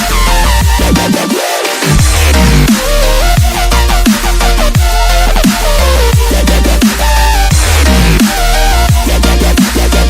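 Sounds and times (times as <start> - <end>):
dubstep music with heavy bass: 0.0 - 10.0.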